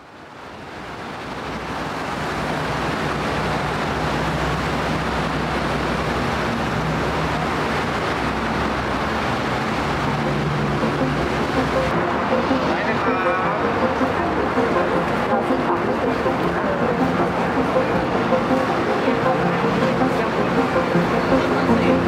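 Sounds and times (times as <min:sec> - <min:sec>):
traffic hum: 0:00.4 - 0:22.0.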